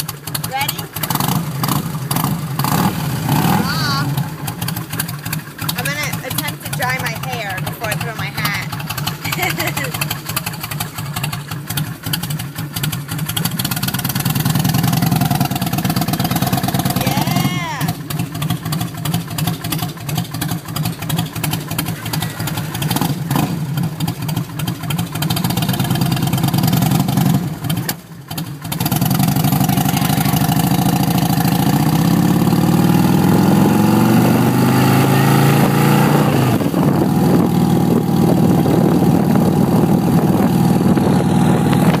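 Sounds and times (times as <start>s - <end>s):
motorcycle engine accelerating: 0.0s - 42.0s.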